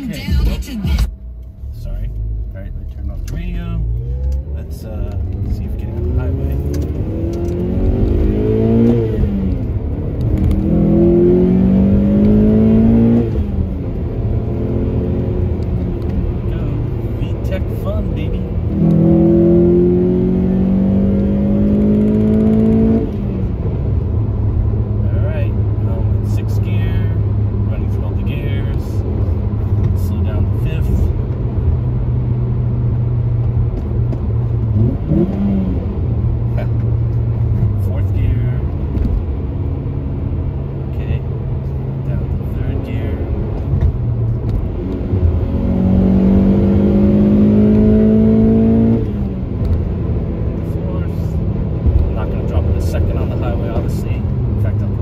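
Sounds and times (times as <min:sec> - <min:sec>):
car engine revving through gears: 0:01.7 - 0:55.0.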